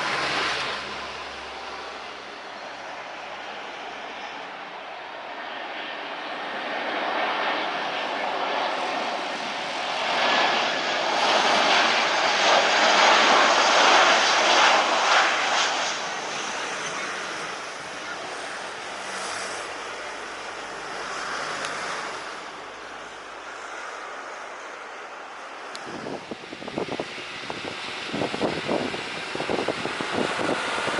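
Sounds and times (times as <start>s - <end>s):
jet engines roaring on take-off: 0.0s - 30.9s.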